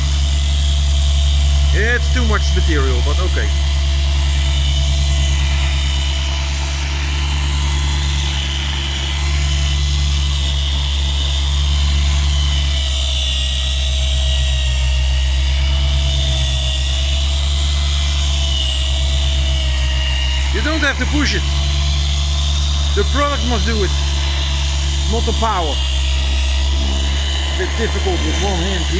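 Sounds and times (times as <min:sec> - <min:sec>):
electric polisher whining: 0:00.0 - 0:28.9.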